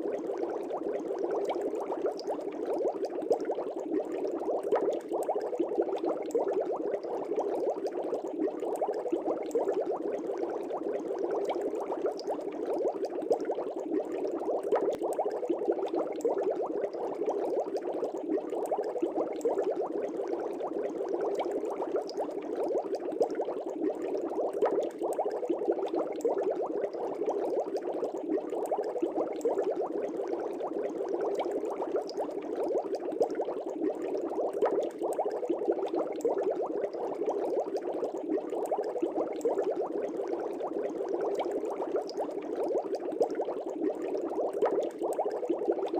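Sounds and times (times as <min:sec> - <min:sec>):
aquarium air bubbles: 0:00.0 - 0:45.9.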